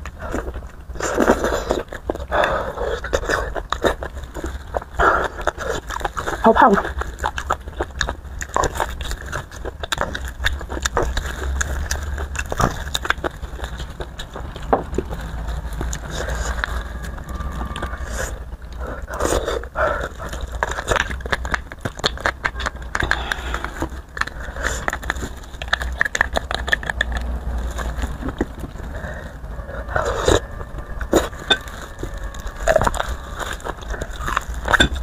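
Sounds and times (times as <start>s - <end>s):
small clicks and crackles: 0.0s - 35.0s
wet chewing and mouth sounds: 0.0s - 35.0s.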